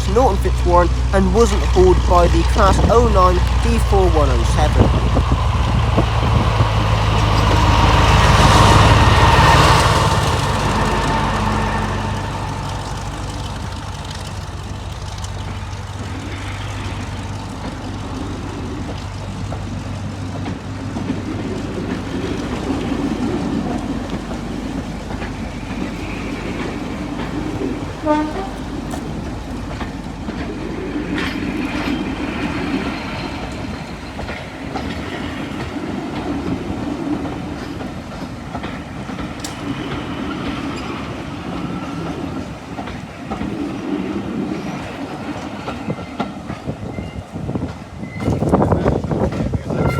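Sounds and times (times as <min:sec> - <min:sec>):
engine hum: 0:00.0 - 0:45.4
train wheels clattering over rail joints: 0:00.9 - 0:49.9.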